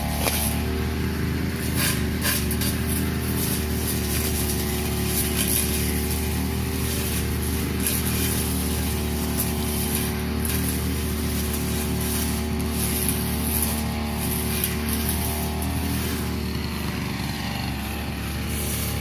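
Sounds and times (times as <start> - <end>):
line swishing through grass: 0.0 - 0.8, 1.5 - 19.0
brush cutter engine running: 0.0 - 19.0.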